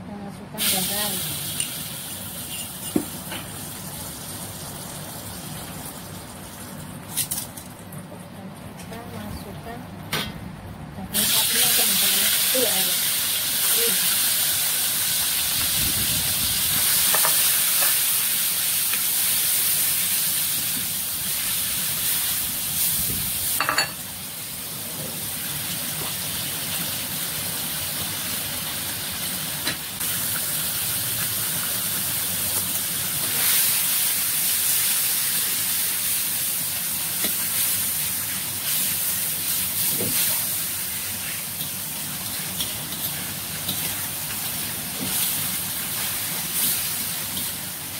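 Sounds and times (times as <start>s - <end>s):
meat sizzling in hot oil: 0.6s - 7.5s, 11.1s - 47.9s.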